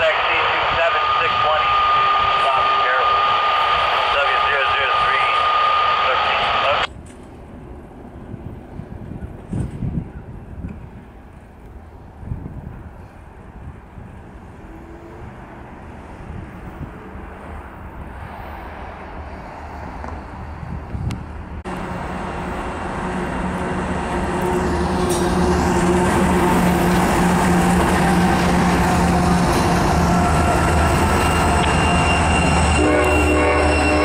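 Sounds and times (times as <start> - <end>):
diesel locomotives passing: 0.0 - 34.0.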